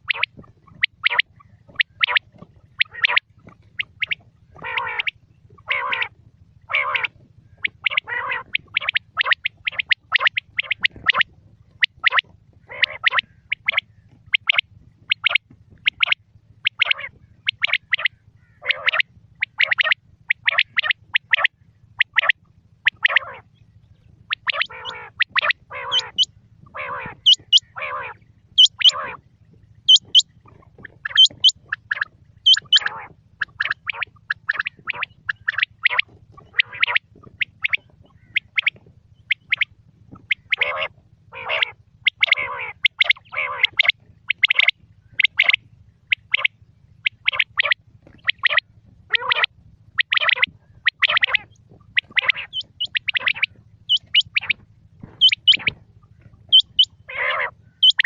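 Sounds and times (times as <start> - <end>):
quail calling: 0.0 - 58.0.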